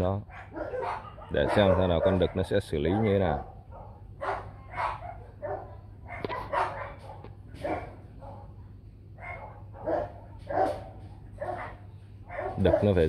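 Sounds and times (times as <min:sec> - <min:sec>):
dogs barking: 0:00.0 - 0:13.0
low steady hum: 0:00.0 - 0:13.0.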